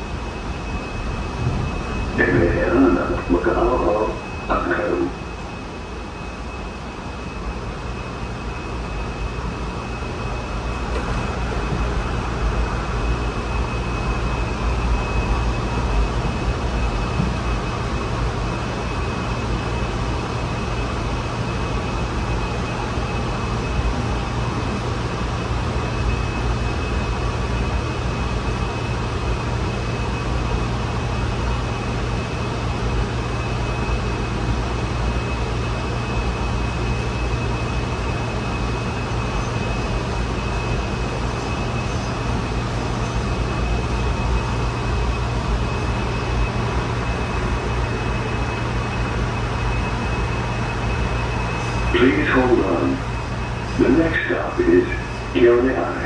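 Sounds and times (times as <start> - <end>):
metro car rumble and hum: 0.0 - 56.0.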